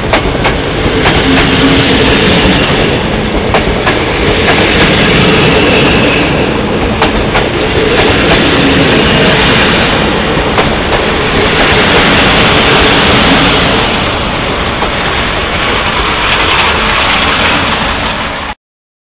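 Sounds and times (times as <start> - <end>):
train coaches rolling past: 0.0 - 18.6.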